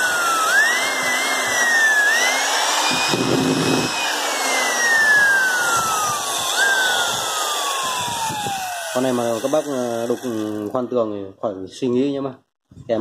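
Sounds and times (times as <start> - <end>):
hammer drill motor whine: 0.0 - 10.8.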